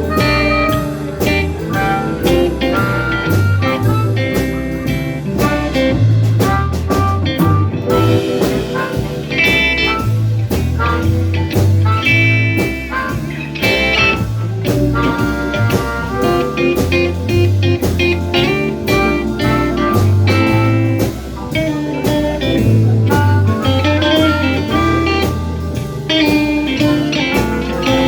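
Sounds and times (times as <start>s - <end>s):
lead guitar line: 0.0s - 28.0s
steady drums: 0.0s - 28.0s
walking bass line: 0.0s - 28.0s.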